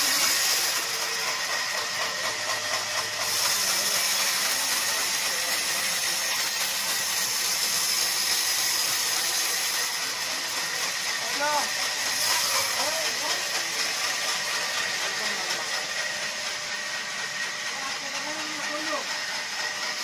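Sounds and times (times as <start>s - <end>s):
band saw cutting log: 0.0s - 20.0s.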